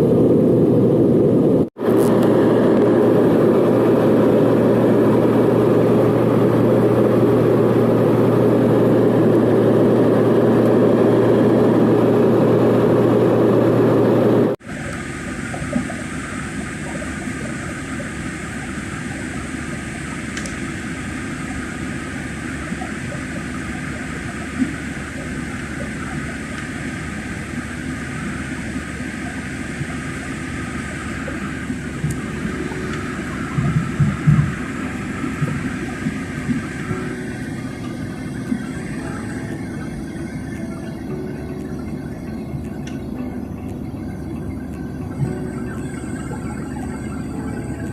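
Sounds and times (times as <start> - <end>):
airliner cabin engine rush: 0.0 - 47.9.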